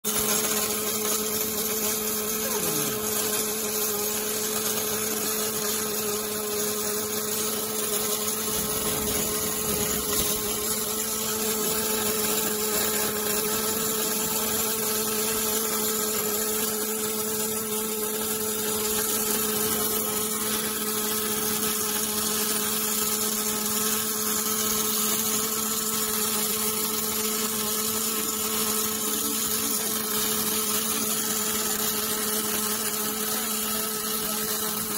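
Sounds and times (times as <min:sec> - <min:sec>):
welding arc hissing and crackling: 0:00.0 - 0:34.9
steady machine hum: 0:00.1 - 0:34.9.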